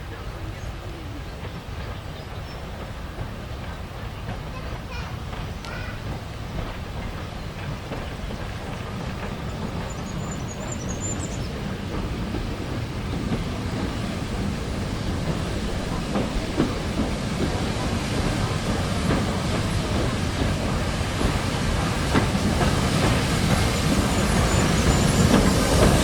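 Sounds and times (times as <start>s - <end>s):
train rumble: 0.0s - 26.0s
wheels clacking over rail joints: 0.1s - 26.0s.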